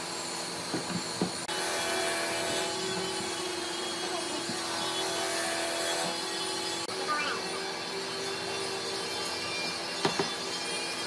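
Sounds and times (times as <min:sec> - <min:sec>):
electric power tool motor humming: 0:00.3 - 0:11.0.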